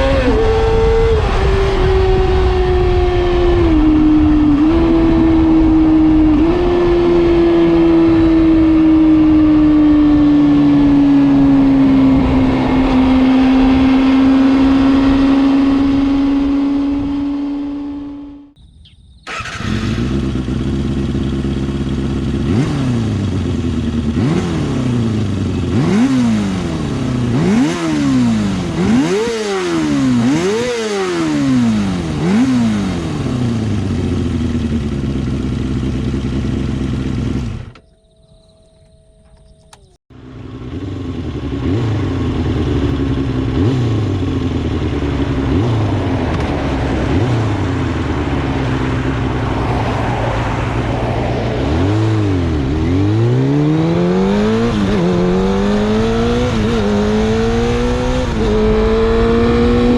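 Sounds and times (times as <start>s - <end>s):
motorcycle engine revving: 0.0s - 18.6s, 19.2s - 38.0s, 38.8s - 59.9s.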